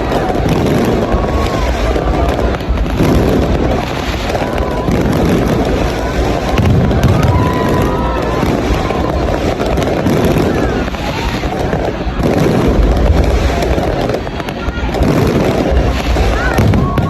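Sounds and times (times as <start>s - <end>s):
fireworks booming and crackling: 0.0s - 17.0s.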